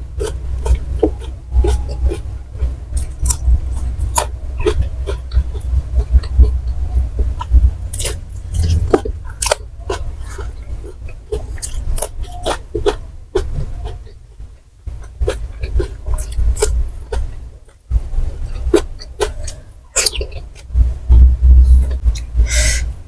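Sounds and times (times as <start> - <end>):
crunchy snack chewing: 0.0 - 20.8
wet mouth clicks: 0.0 - 22.9
low rumble: 0.0 - 23.0.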